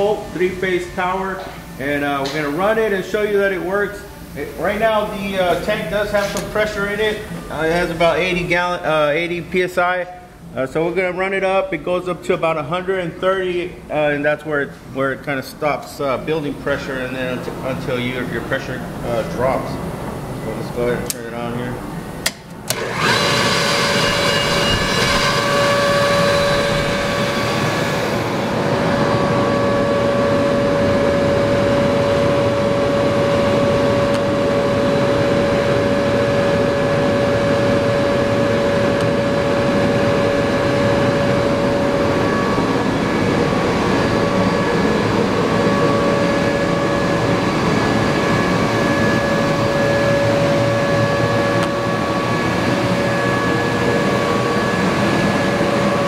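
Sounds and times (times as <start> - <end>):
air compressor whining: 0.0 - 56.0.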